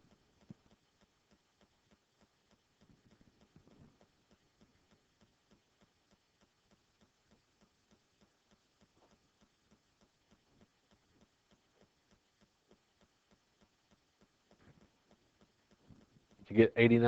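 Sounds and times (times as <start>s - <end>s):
faint regular ticking: 0.0s - 17.0s.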